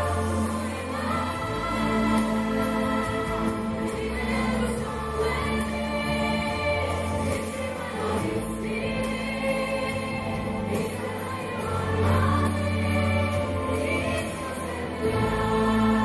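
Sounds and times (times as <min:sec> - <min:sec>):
woman singing into microphone: 0:00.0 - 0:16.0.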